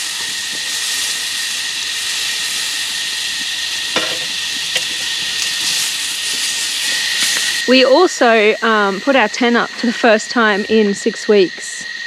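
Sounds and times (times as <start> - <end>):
food frying sizzle: 0.0 - 12.0.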